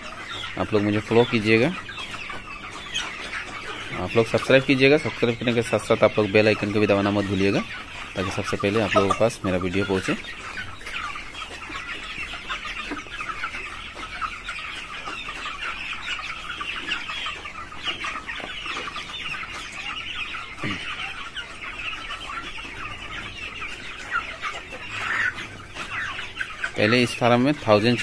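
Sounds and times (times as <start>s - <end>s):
chickens peeping and clucking: 0.0s - 28.0s.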